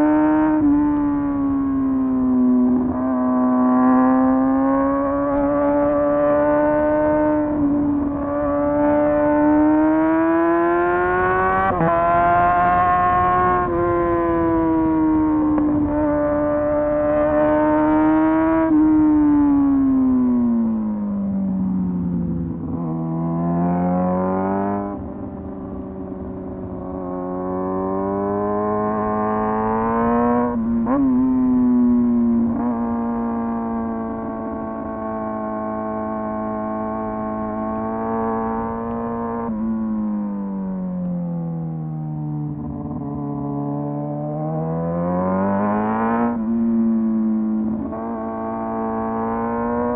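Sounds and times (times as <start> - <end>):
motorcycle engine revving: 0.0 - 40.4, 42.1 - 49.9.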